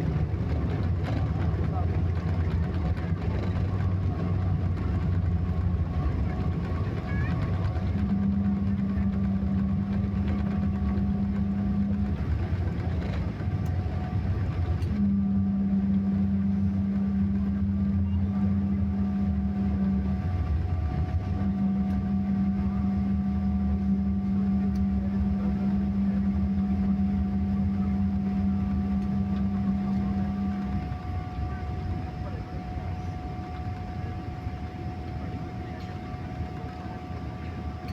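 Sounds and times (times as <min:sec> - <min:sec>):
engine rumbling: 0:00.0 - 0:37.9
faint steady tones: 0:00.0 - 0:37.9
low hum: 0:00.0 - 0:37.9
low mechanical drone: 0:00.0 - 0:37.9.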